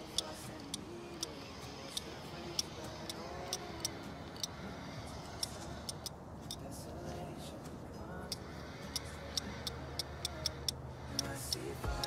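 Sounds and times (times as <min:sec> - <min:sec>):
sharp high-pitched clicks: 0:00.0 - 0:06.7, 0:08.2 - 0:12.0.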